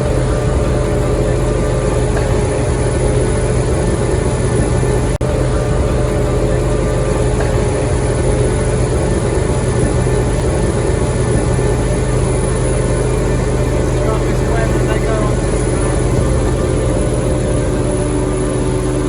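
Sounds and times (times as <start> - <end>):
diesel farm machinery droning: 0.0 - 19.0.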